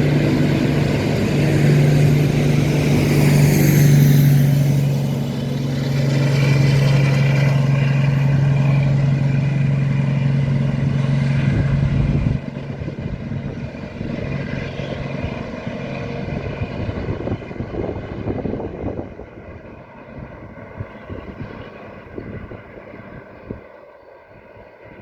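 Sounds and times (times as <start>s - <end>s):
diesel train engine drone: 0.0s - 25.0s.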